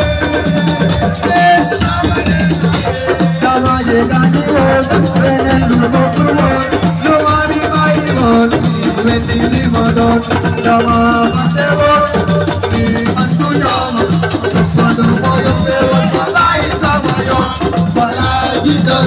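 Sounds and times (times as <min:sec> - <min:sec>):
fast dense percussion beat: 0:00.0 - 0:19.0
pitched melody line: 0:00.0 - 0:19.0.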